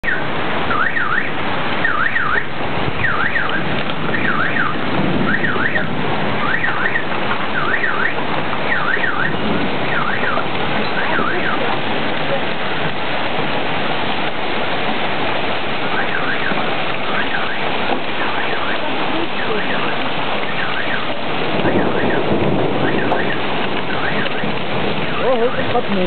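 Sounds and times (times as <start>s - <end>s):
car alarm warbling: 0.0s - 11.9s, 15.7s - 25.9s
heavy rain and hail: 0.0s - 26.0s.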